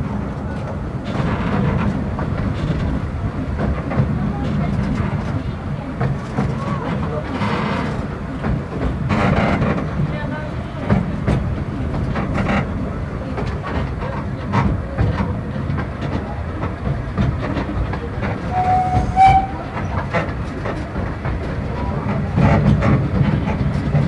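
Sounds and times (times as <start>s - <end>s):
railway carriage rumbling: 0.0s - 24.0s
wheels clicking over rail joints: 0.3s - 24.0s.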